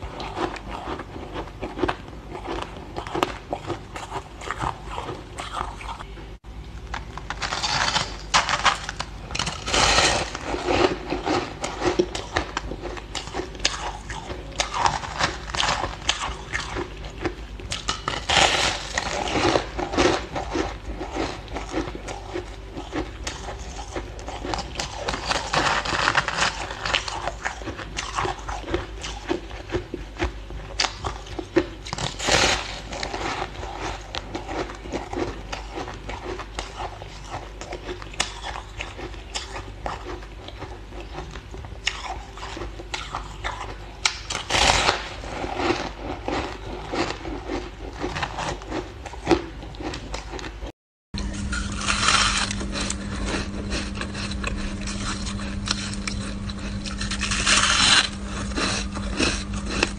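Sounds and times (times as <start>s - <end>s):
shaved ice being chewed: 0.0s - 6.1s, 6.8s - 59.9s.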